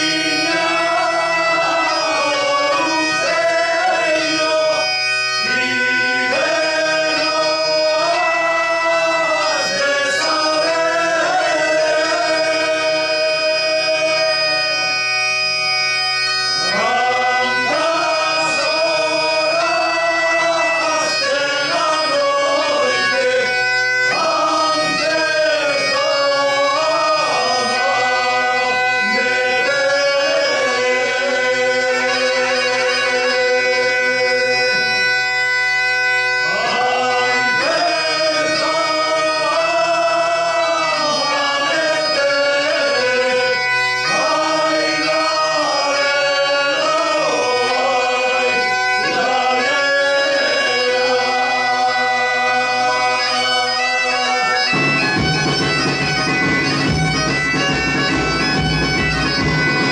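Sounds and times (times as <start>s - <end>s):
male choir singing: 0.0s - 15.1s, 16.5s - 35.0s, 36.4s - 59.9s
bagpipe drone: 0.0s - 59.9s.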